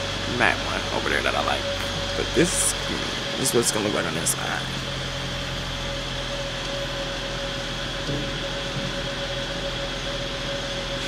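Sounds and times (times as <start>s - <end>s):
fan hum: 0.0s - 11.0s.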